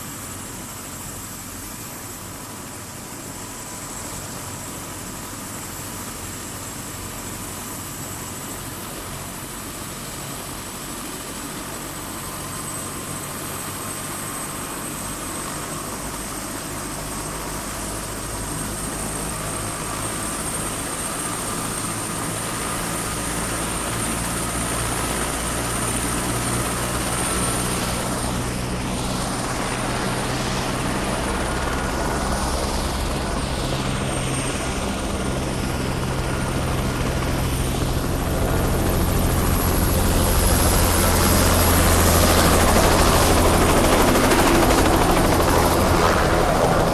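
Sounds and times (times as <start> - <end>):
helicopter rotor chopping: 4.1 - 46.9.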